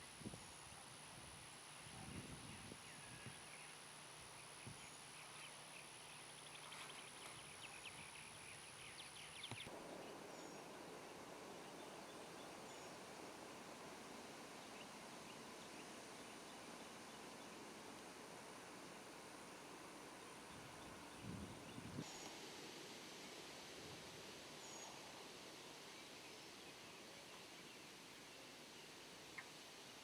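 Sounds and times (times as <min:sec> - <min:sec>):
faint high steady whine: 0:00.0 - 0:30.0.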